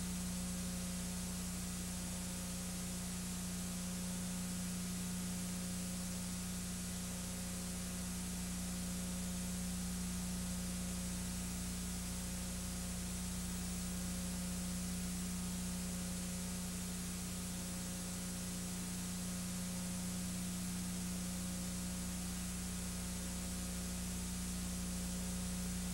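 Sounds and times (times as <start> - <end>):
low electrical hum: 0.0 - 25.9.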